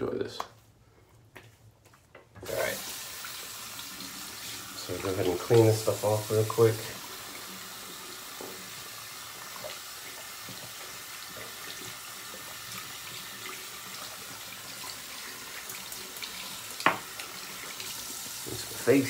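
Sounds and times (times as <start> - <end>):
tap water running into sink: 2.4 - 19.0.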